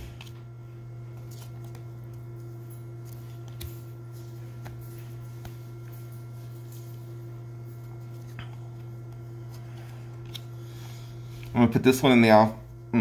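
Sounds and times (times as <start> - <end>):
trading cards being handled: 0.0 - 11.6.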